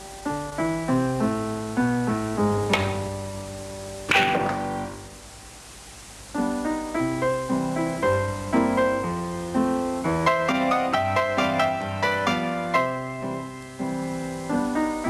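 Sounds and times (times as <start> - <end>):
piano music: 0.0 - 5.3, 6.3 - 15.0.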